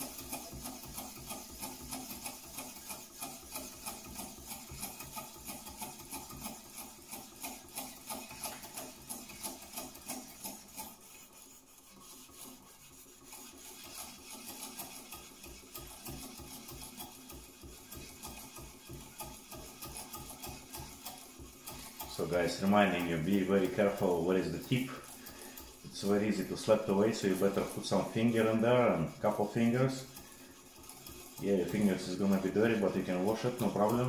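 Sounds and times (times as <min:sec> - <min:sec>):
whetstone rubbing on knife edge: 0:06.5 - 0:34.0.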